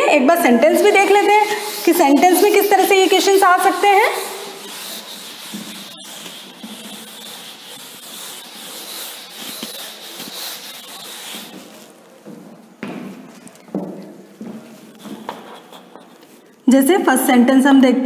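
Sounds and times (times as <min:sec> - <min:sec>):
duster scrubbing chalkboard: 0:00.5 - 0:13.6, 0:14.5 - 0:16.3.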